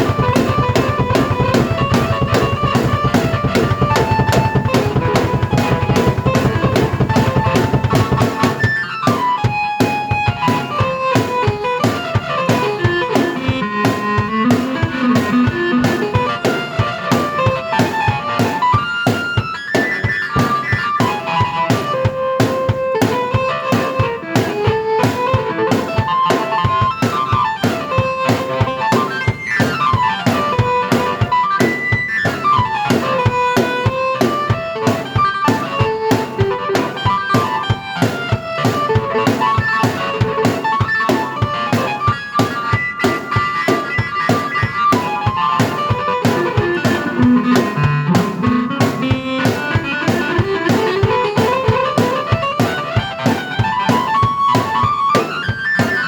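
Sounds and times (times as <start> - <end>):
keyboard melody: 0.0 - 56.0
steady drum beat: 0.0 - 56.0.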